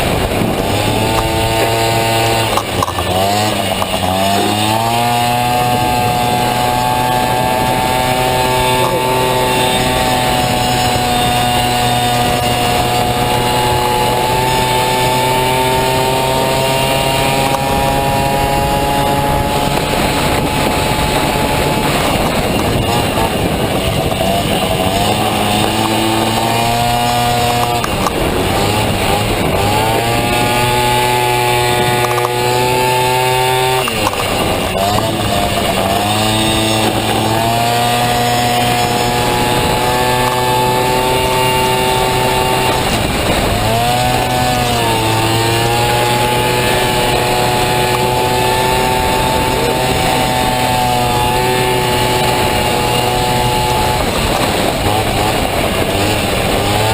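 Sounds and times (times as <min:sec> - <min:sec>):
scooter engine revving: 0:00.0 - 0:56.9.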